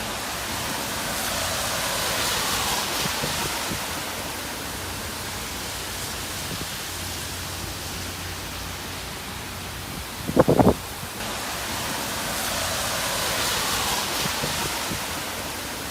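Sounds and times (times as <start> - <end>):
wind and rain rushing: 0.0 - 15.9.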